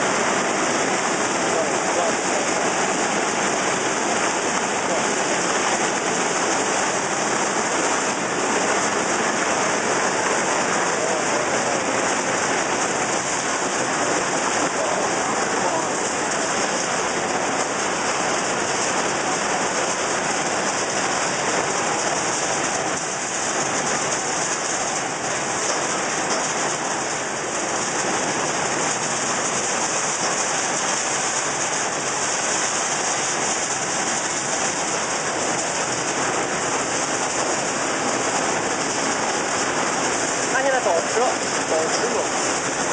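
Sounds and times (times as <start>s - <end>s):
steady machine noise: 0.0s - 42.9s.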